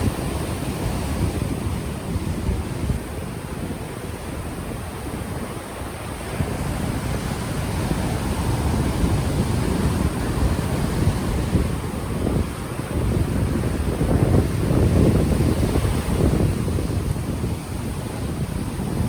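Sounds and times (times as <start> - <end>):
ocean waves washing onto beach: 0.0 - 19.0
wind buffeting microphone: 0.0 - 19.0.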